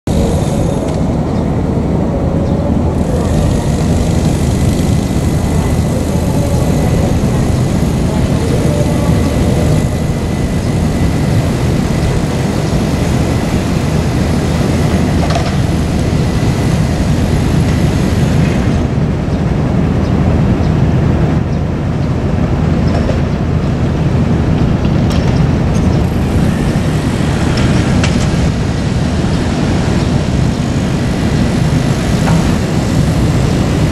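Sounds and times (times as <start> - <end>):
excavator diesel engines rumbling: 0.0 - 33.9.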